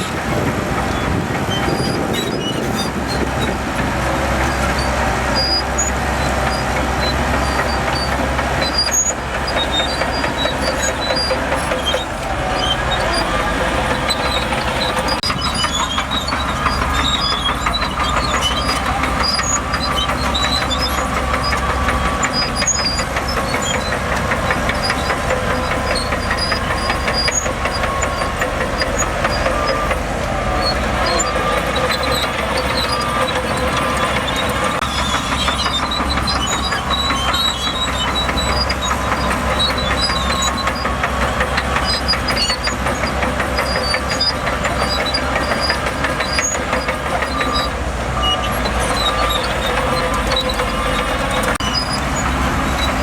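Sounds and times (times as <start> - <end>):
diesel engine clattering: 0.0 - 53.0.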